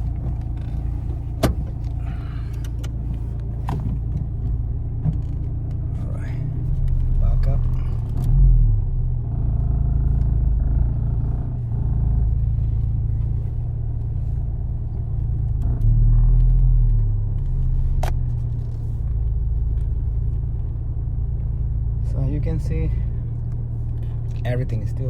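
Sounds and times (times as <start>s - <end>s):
car engine rumbling while driving: 0.0s - 25.0s.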